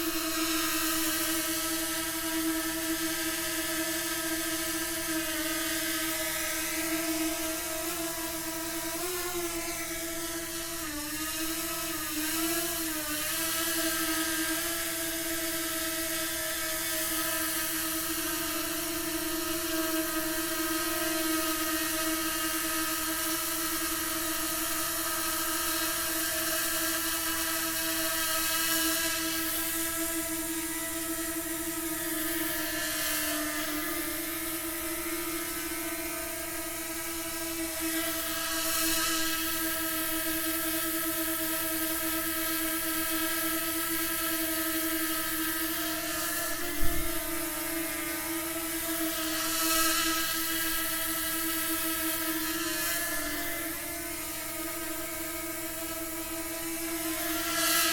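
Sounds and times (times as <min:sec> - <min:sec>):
drone propellers buzzing: 0:00.0 - 0:57.9.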